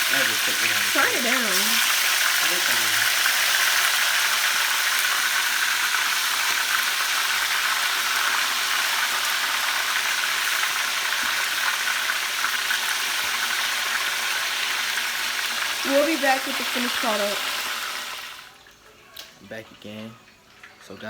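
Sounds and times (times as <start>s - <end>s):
wings deep-frying in oil: 0.0s - 21.0s.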